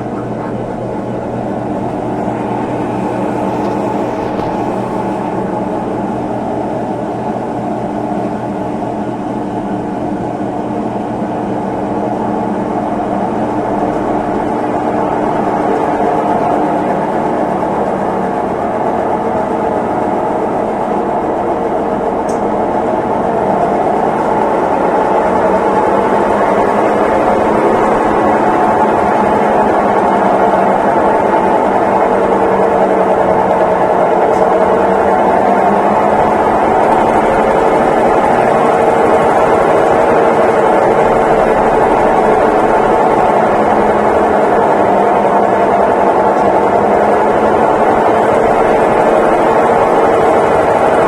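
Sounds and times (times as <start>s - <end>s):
washing machine spinning: 0.0s - 51.0s.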